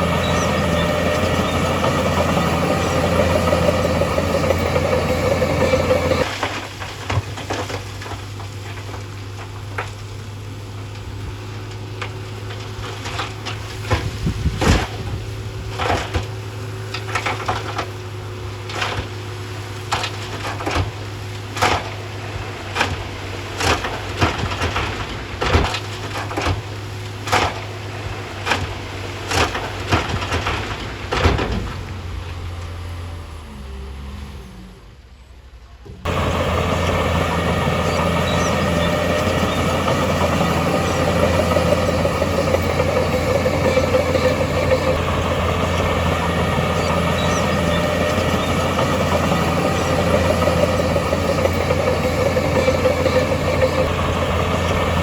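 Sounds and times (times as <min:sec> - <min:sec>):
heavy machine engine running: 0:00.0 - 0:34.8, 0:36.0 - 0:55.0.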